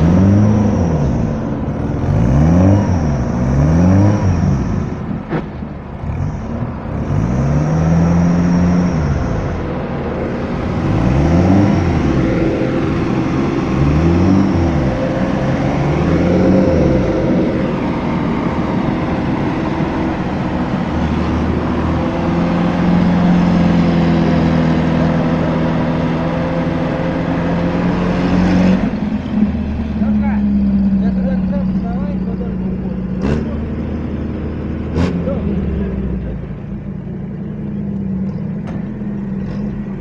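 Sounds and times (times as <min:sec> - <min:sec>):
off-road vehicle engine revving: 0:00.0 - 0:40.0.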